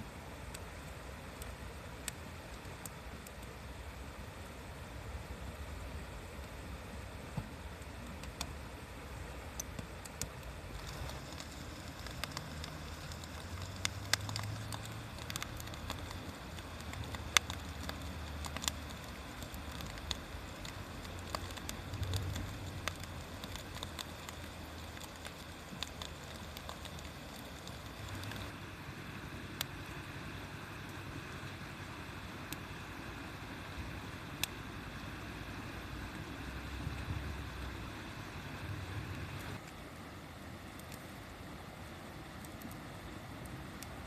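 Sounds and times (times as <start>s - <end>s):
low steady rumble: 0.0s - 44.0s
wood fire crackling: 0.0s - 44.0s.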